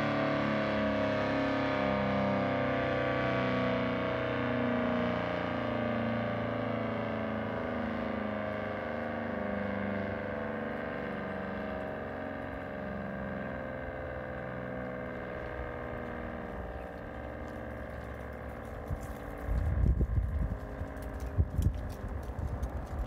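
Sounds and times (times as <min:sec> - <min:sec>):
warning siren alert tone: 0:00.0 - 0:23.0.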